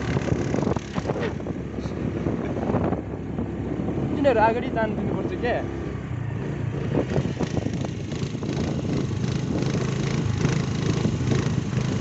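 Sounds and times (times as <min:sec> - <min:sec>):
road noise: 0:00.0 - 0:12.0
scooter engine running: 0:00.0 - 0:12.0.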